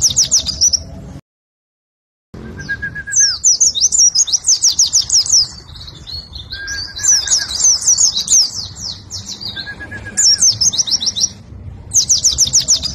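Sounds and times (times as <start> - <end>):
bird twittering song: 0.0 - 1.0, 2.4 - 12.9.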